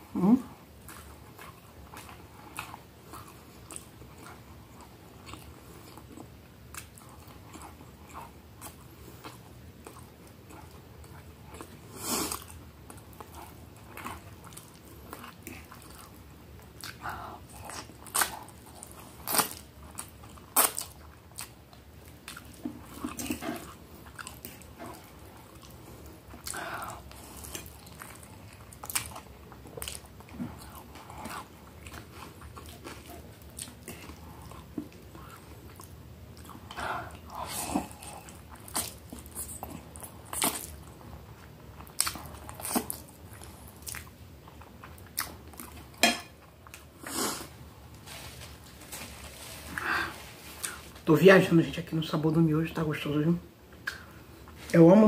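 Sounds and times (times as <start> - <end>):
person chewing food: 0.3 - 51.0.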